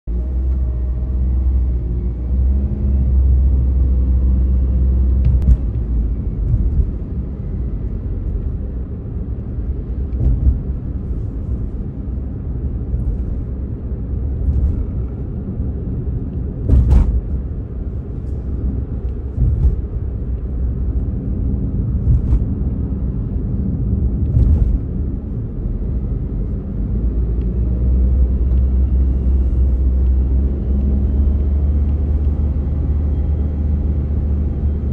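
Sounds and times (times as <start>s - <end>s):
car road noise rumble: 0.0s - 34.9s.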